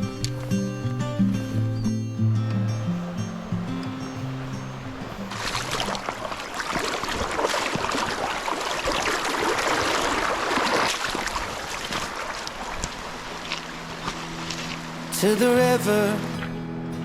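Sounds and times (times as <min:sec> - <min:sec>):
water rushing and splashing: 0:00.0 - 0:16.6.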